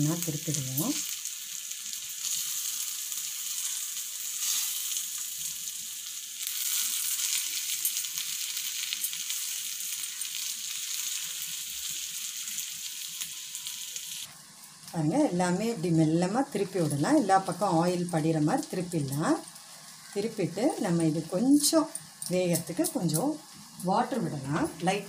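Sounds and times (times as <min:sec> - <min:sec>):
vegetables sizzling in hot oil: 0:00.0 - 0:25.0.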